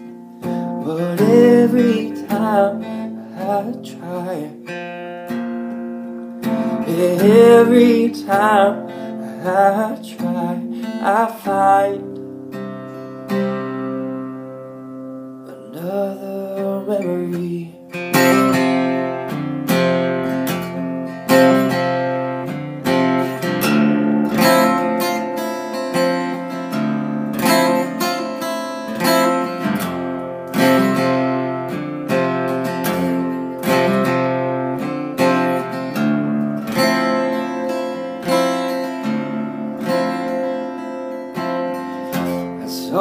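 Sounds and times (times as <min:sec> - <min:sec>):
acoustic guitar strumming: 0:00.0 - 0:43.0.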